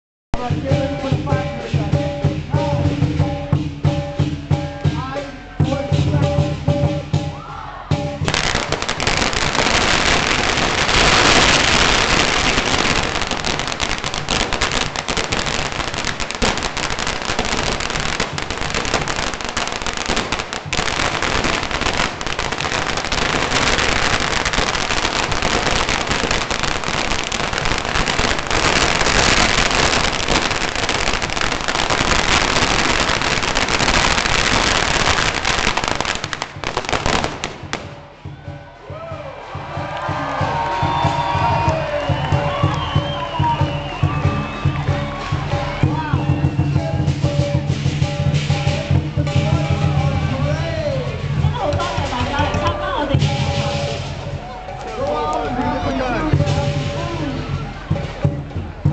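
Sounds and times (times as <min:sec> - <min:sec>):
firecrackers going off: 0:08.0 - 0:38.5, 0:39.5 - 0:58.9.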